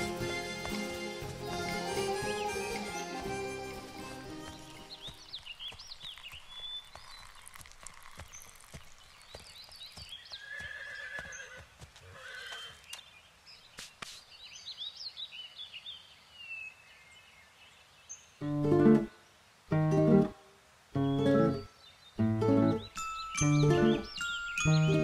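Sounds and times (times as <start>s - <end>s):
birds chirping: 0.0s - 19.4s, 21.0s - 25.0s.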